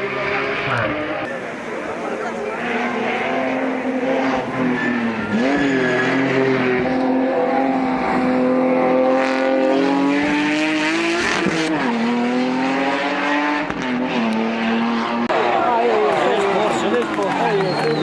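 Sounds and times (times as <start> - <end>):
rally car engine revving high: 0.0 - 16.9.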